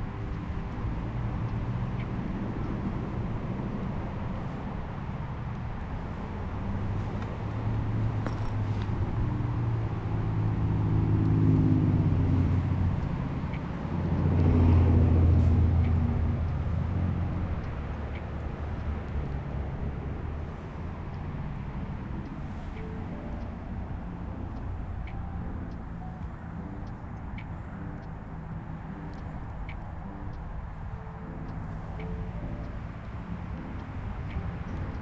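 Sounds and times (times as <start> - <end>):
motor vehicles passing: 0.0 - 35.0
steady background rush: 0.0 - 35.0.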